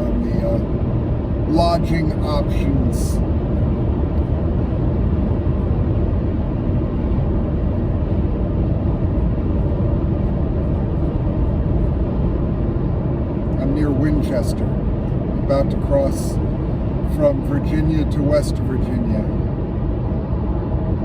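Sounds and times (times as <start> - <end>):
car driving at highway speed: 0.0 - 21.0.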